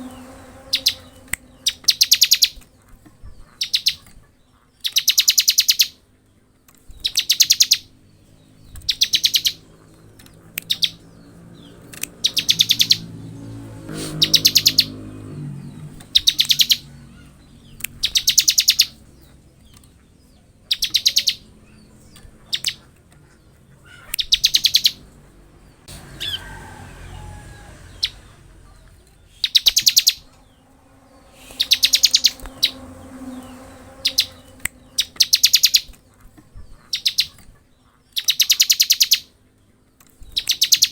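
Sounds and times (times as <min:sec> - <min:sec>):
bird singing rapid rattling trills: 0:00.0 - 0:06.1, 0:06.7 - 0:26.4, 0:27.8 - 0:40.9.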